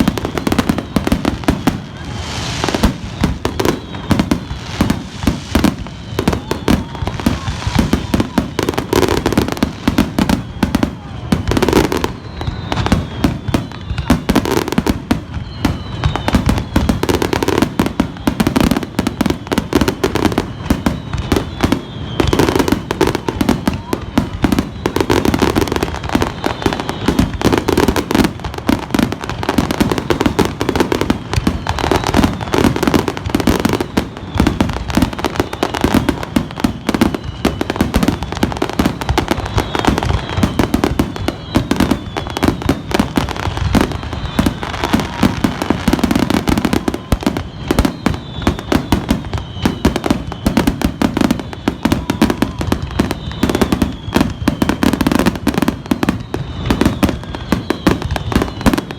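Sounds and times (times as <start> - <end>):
fireworks bangs and crackles: 0.0 - 58.9.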